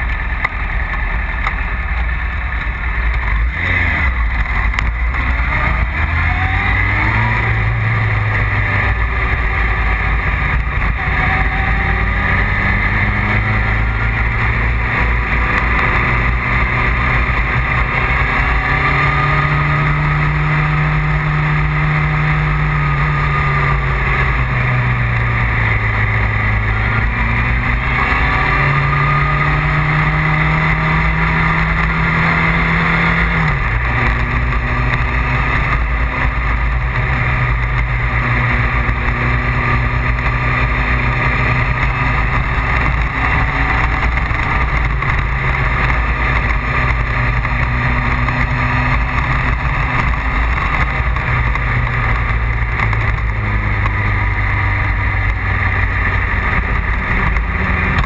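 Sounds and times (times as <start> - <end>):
road and wind noise: 0.0 - 58.0
vehicle engine running: 0.0 - 58.0.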